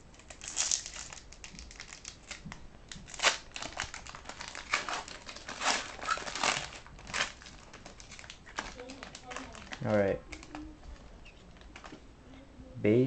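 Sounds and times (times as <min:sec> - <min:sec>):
foil wrapper crinkling: 0:00.1 - 0:12.0.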